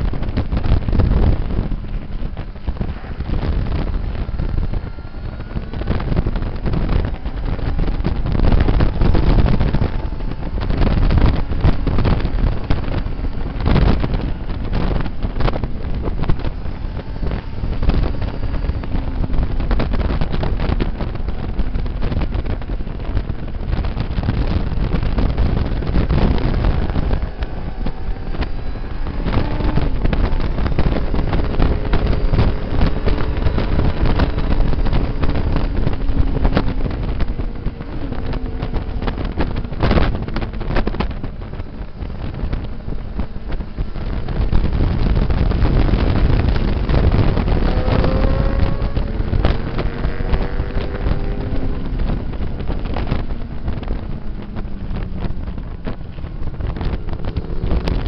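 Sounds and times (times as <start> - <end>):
motorcycle engine revving: 0.0 - 58.0
wind buffeting microphone: 0.0 - 58.0.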